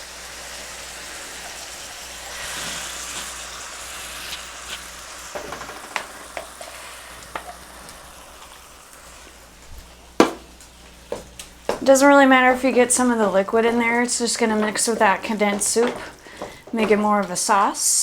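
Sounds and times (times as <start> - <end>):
meat sizzling in a pan: 0.0 - 16.8.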